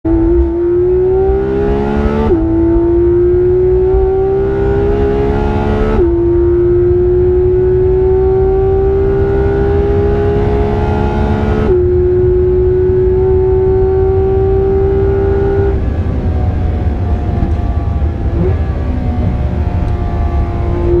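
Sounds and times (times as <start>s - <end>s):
car engine at full throttle: 0.0s - 21.0s
road noise rumble: 0.0s - 21.0s.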